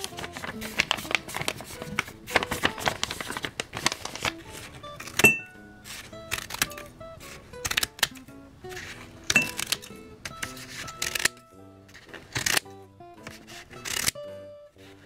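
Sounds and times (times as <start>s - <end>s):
paper rustling and tearing: 0.0s - 14.2s
scissors cutting paper: 0.0s - 14.2s
light background music: 0.0s - 15.0s.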